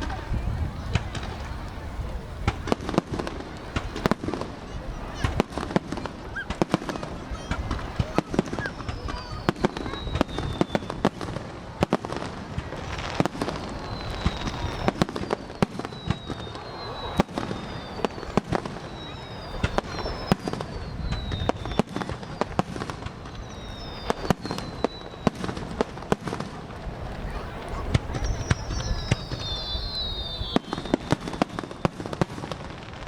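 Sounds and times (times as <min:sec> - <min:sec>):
fireworks bangs and crackles: 0:00.0 - 0:33.0
falling firework whistles: 0:02.4 - 0:33.0.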